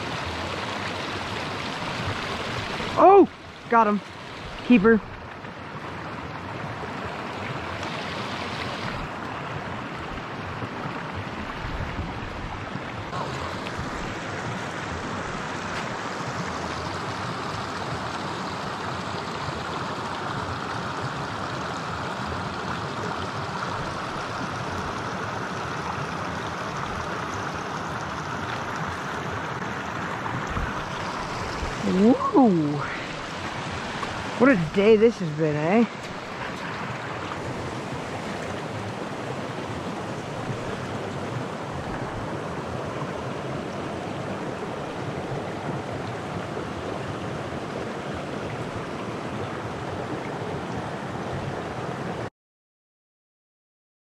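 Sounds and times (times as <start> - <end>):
creek flowing: 0.0 - 52.3.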